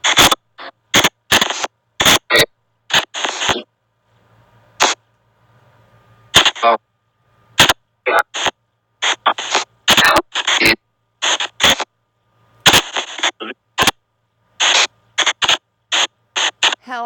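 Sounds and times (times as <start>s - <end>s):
chopped white noise bursts: 0.0s - 3.7s, 4.8s - 5.0s, 6.3s - 6.8s, 7.5s - 17.0s.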